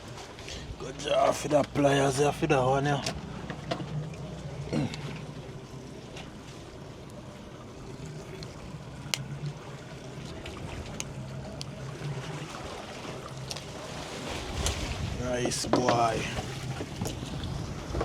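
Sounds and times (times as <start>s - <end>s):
low steady hum: 0.0s - 18.0s
sea waves: 0.0s - 18.0s
wind: 0.0s - 18.0s.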